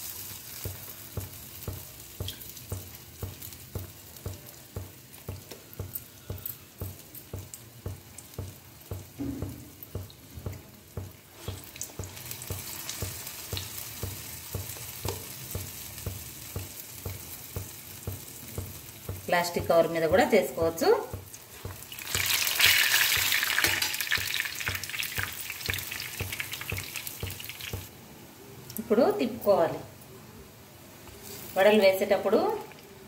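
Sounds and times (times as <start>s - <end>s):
fritters sizzling in oil: 0.0s - 27.9s, 31.0s - 33.0s.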